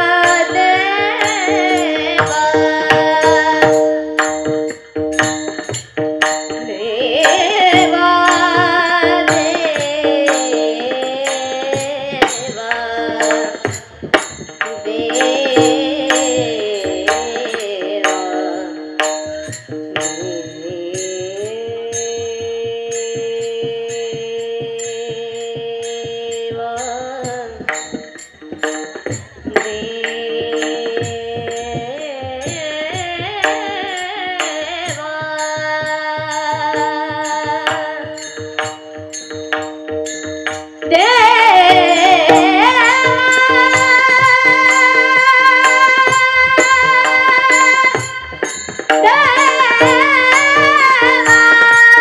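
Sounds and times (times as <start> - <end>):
woman singing: 0.0 - 5.8, 6.4 - 38.8, 40.9 - 52.0
drum and cymbal strokes: 0.0 - 52.0.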